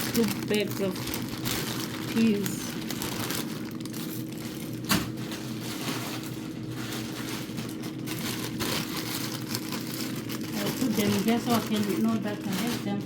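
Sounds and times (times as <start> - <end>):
plastic bags rustling: 0.0 - 13.0
steady low hum: 0.0 - 13.0.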